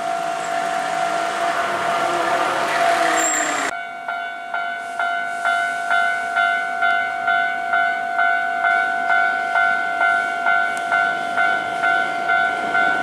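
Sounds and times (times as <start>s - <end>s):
level-crossing warning bell ringing: 0.0s - 13.0s
passing train rush: 0.0s - 13.0s.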